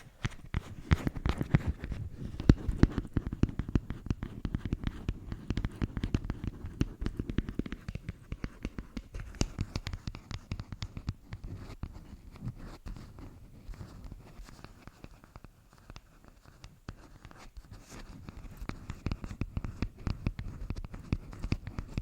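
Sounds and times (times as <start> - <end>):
asmr tapping and scratching: 0.0 - 22.0.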